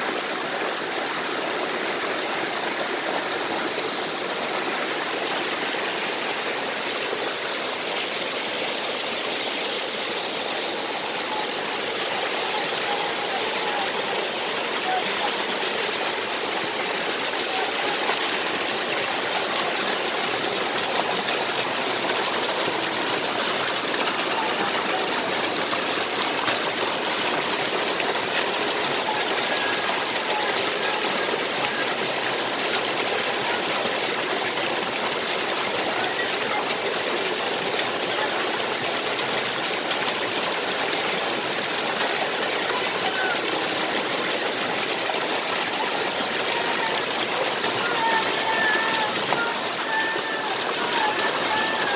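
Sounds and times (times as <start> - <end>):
waterfall and stream flowing: 0.0 - 51.9.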